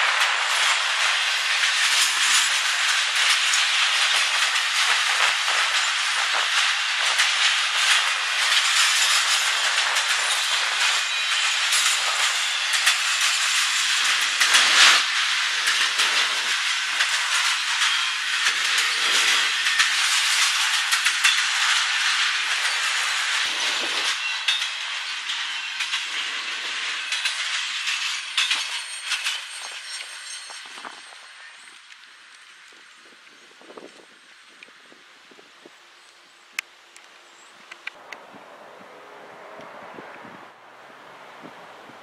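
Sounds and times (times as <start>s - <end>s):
train clicks and clanks: 0.0s - 38.3s
train wheels rushing on rail: 0.0s - 42.0s.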